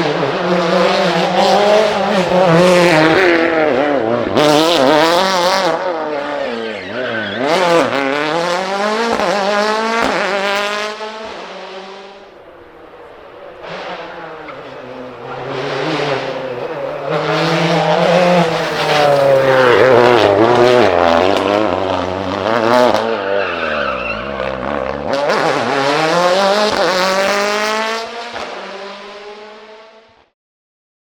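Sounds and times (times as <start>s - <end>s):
rally car engine revving: 0.0s - 30.2s.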